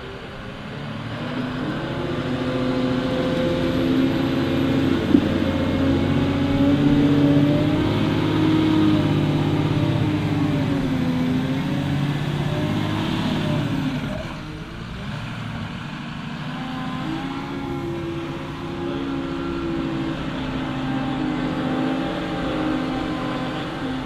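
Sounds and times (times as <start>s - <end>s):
diesel engine under load: 0.0s - 24.0s.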